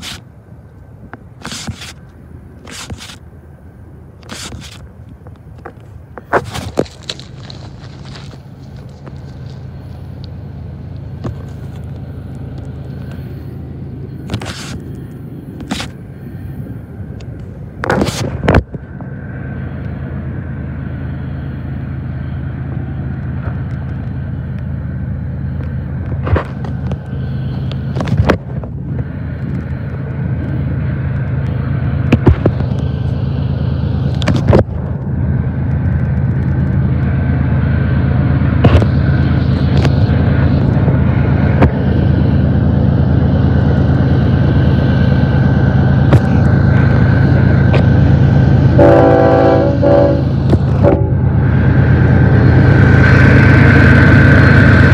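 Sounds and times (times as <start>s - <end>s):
diesel locomotive engine drone: 0.0s - 54.9s.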